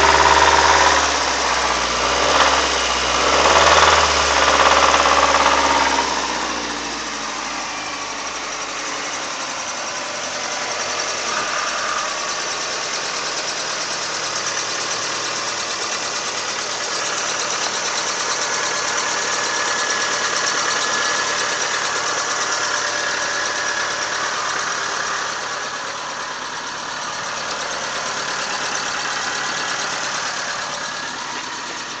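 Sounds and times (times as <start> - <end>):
car engine idling: 0.0 - 32.0
engine rattling: 0.0 - 32.0.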